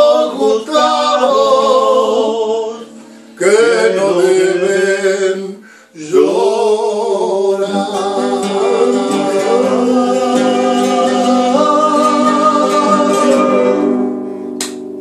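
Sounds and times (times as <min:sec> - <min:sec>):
man singing: 0:00.0 - 0:14.0
strummed classical guitars: 0:00.0 - 0:15.0.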